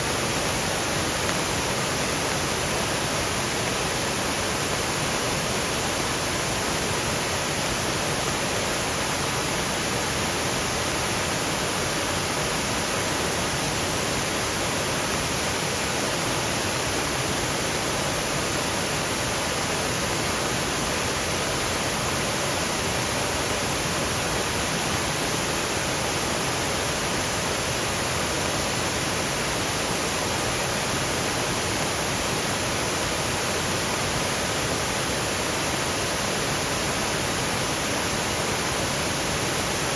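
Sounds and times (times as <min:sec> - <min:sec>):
light rain in trees: 0:00.0 - 0:39.9
waterfall rushing over rocks: 0:00.0 - 0:39.9.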